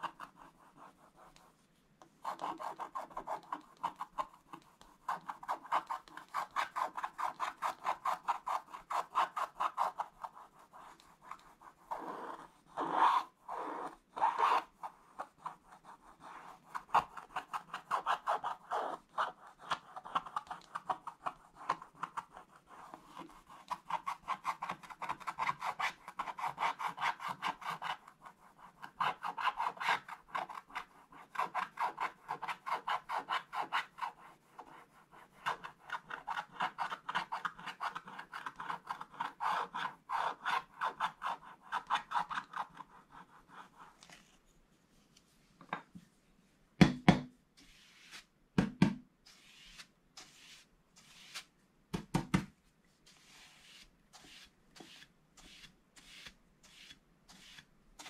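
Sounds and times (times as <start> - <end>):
stylus scraping paper: 2.2 - 44.4, 47.6 - 48.3, 49.3 - 51.6, 53.0 - 57.7.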